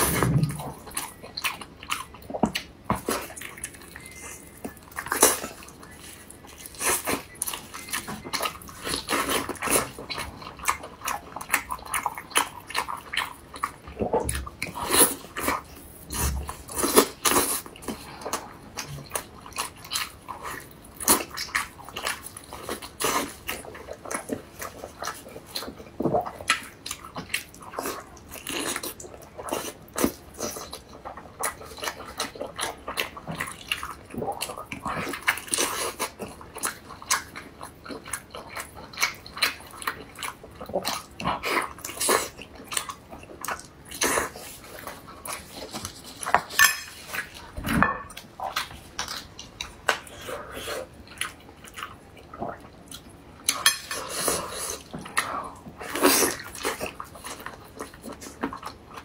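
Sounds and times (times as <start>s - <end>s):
person chewing wetly: 0.0s - 59.0s.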